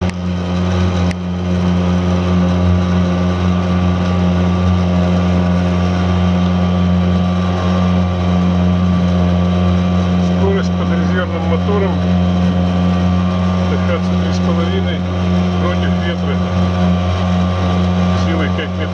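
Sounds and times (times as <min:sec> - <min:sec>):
outboard motor running: 0:00.0 - 0:18.9.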